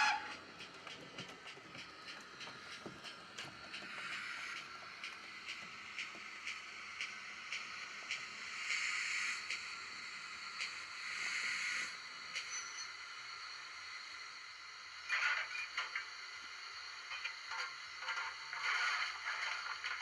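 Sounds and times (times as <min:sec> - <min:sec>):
steam hiss: 0:00.0 - 0:20.0
steam locomotive exhaust chuffs: 0:00.0 - 0:20.0.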